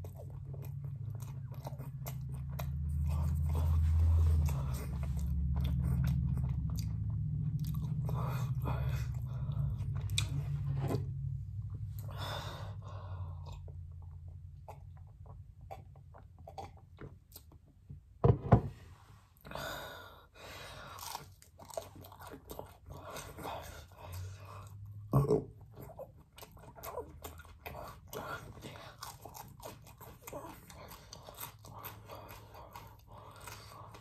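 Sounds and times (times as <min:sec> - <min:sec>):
chewing and crunching food: 0:00.0 - 0:18.0, 0:20.3 - 0:34.0.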